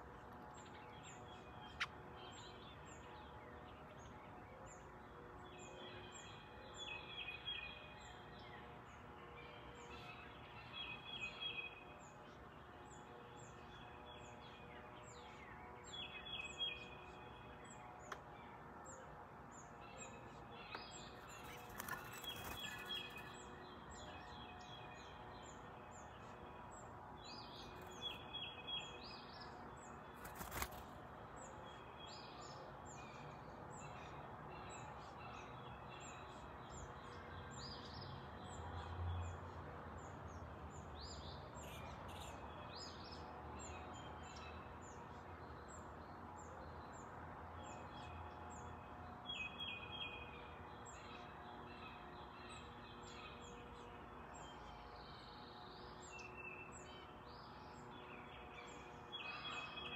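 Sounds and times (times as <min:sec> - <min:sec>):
faint outdoor background noise: 0:00.0 - 0:59.9
songbirds chirping: 0:00.0 - 0:59.9.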